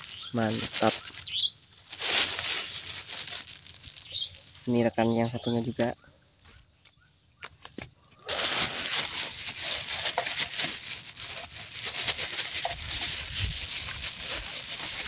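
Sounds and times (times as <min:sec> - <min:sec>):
rustling with clicks and taps: 0:00.0 - 0:04.7, 0:07.4 - 0:15.0.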